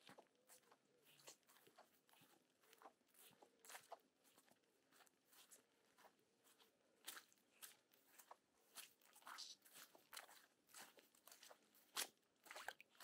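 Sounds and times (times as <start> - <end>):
faint footsteps: 0.0 - 12.8.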